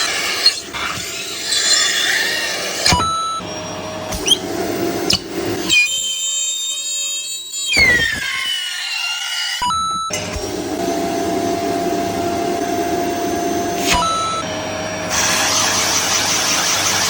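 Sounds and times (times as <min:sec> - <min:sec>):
vacuum cleaner motor whine: 0:00.0 - 0:06.4, 0:09.5 - 0:17.0.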